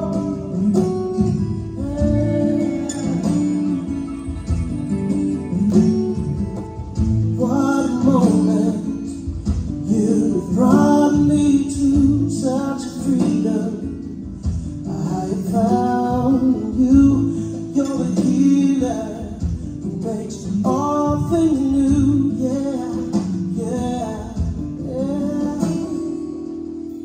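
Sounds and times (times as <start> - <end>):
person singing: 0.0 - 26.5
guitar accompaniment: 0.0 - 27.0.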